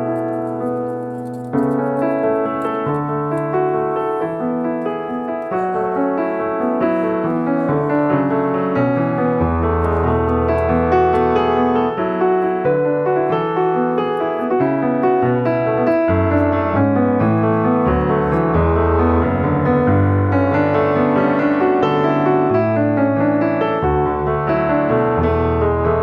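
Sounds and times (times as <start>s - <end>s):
piano playing chords and melody: 0.0s - 26.0s.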